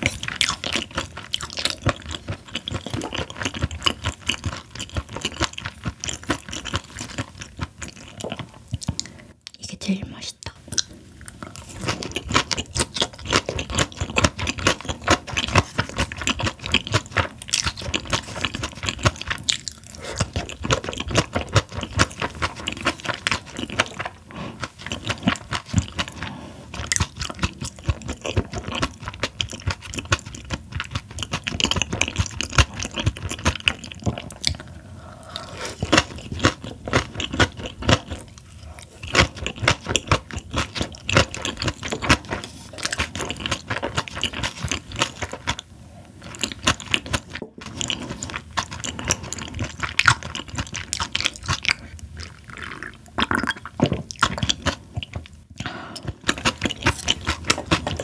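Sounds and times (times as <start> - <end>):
loud chewing and crunching: 0.0 - 9.2, 10.7 - 58.0.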